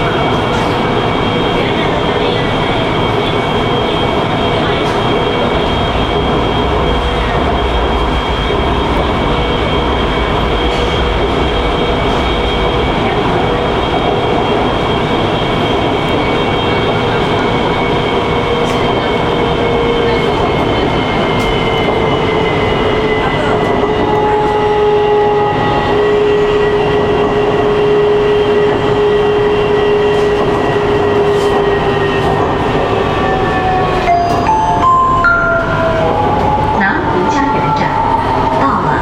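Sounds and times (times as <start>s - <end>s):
train drive whine: 0.0s - 39.0s
train wheels rumbling on rail: 0.0s - 39.0s.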